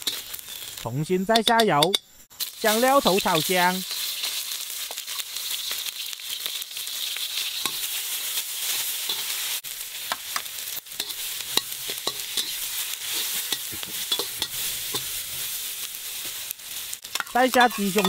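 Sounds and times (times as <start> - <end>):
metal spatula scraping wok: 0.0 - 0.8, 1.4 - 9.6, 10.9 - 18.0
vegetables sizzling in oil: 0.0 - 18.0.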